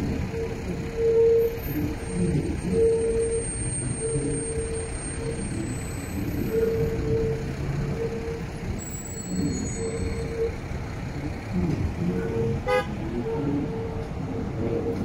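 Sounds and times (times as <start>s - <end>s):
mid-pitched pulsing hum: 0.0s - 15.0s
subway train rumbling: 0.0s - 15.0s.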